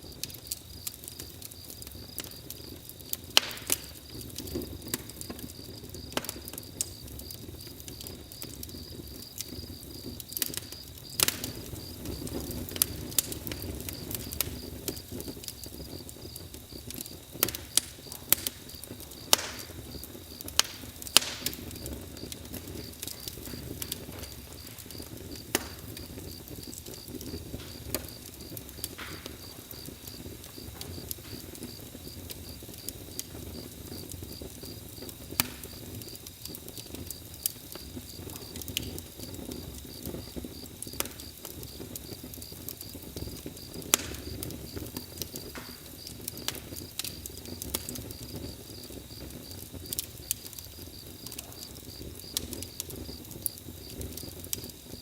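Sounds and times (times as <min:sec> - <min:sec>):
campfire crackling and popping: 0:00.0 - 0:55.0
low rumble of flames: 0:00.0 - 0:55.0.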